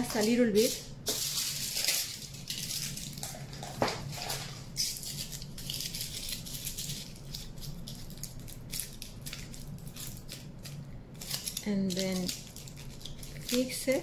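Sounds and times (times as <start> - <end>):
aluminium foil crinkling: 0.0 - 14.0.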